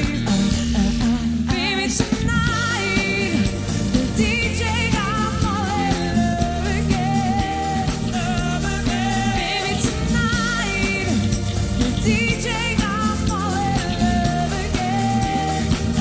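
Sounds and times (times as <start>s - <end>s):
bass: 0.0s - 16.0s
keyboard: 0.0s - 16.0s
steady drum beat: 0.0s - 16.0s
woman singing with vibrato: 0.0s - 16.0s.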